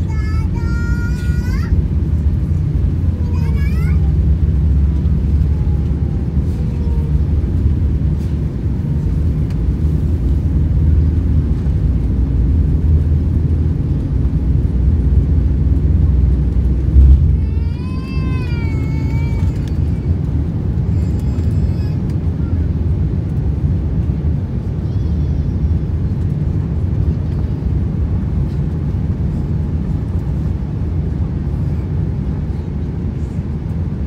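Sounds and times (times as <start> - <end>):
jet engines and runway rumble: 0.0 - 34.0.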